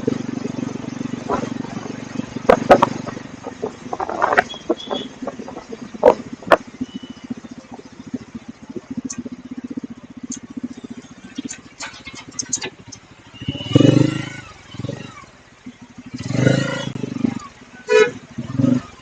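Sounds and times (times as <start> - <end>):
motorcycle exhaust pulsing: 0.0 - 19.0.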